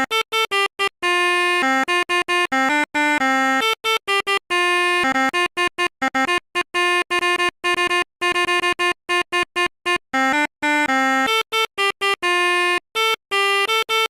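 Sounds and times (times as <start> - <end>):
bus horn playing melody: 0.0 - 14.0.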